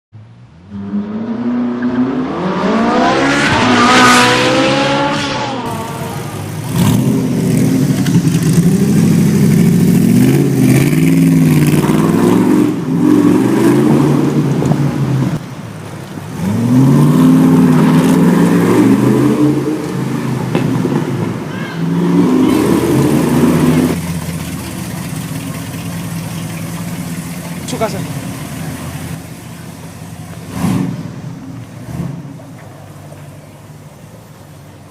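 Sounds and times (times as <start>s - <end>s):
car engine accelerating hard: 0.6s - 15.4s, 16.2s - 32.9s.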